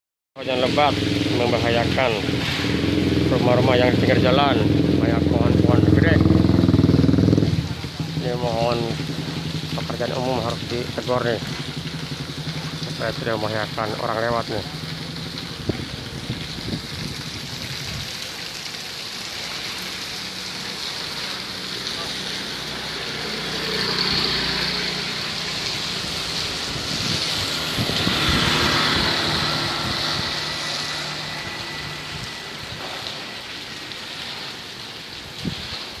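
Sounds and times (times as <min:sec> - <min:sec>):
heavy rain hissing: 0:00.4 - 0:36.0.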